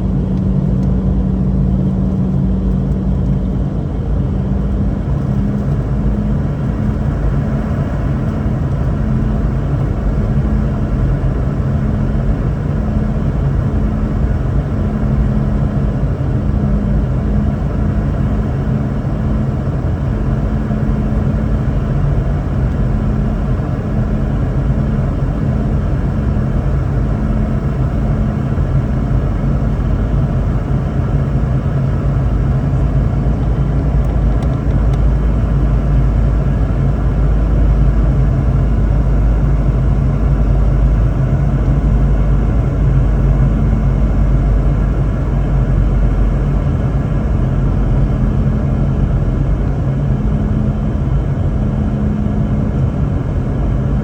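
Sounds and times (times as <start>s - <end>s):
airplane cabin rumble: 0.0s - 54.0s
low hum: 0.0s - 54.0s.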